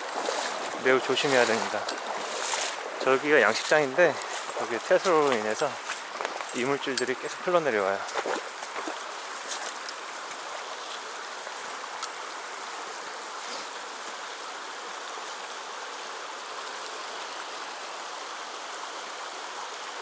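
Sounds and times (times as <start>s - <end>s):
river running over stones: 0.0s - 20.0s.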